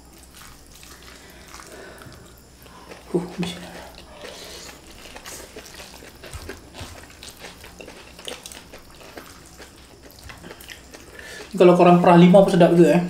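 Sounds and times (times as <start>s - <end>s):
soft chewing and mouth noises: 0.0s - 11.6s.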